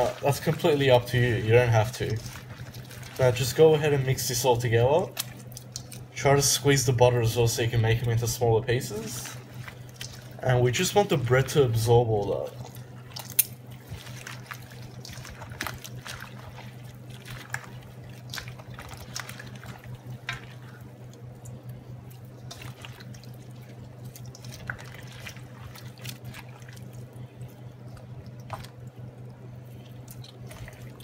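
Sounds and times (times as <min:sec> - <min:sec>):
hands squelching wet bread: 0:00.0 - 0:31.0
steady low hum: 0:00.0 - 0:31.0.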